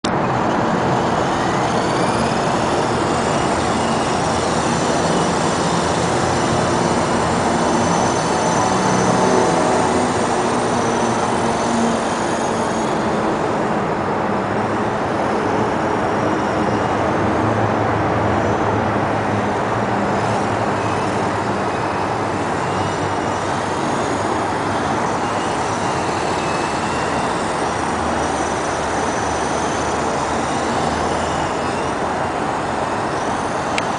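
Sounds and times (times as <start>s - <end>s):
rc helicopter motor whining: 0.1s - 33.9s.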